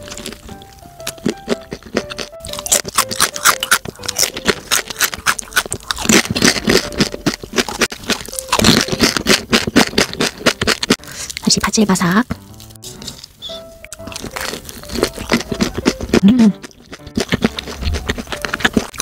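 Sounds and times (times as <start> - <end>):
crunchy food chewing: 0.0 - 11.8, 12.4 - 19.0.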